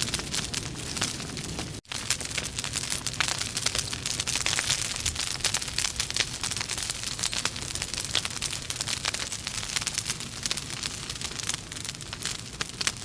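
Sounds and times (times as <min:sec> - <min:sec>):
logs crackling in fireplace: 0:00.0 - 0:13.0.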